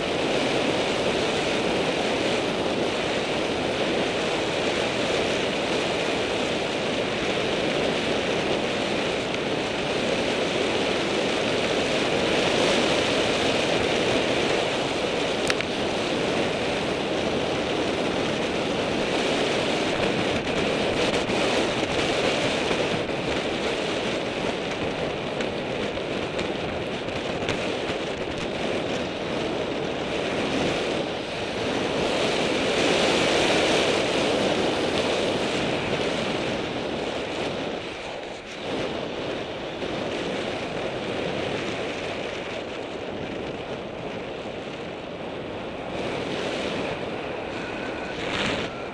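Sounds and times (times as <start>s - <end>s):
bicycle tyres rolling on gravel: 0.0s - 48.9s
wind rushing over microphone: 0.0s - 48.9s.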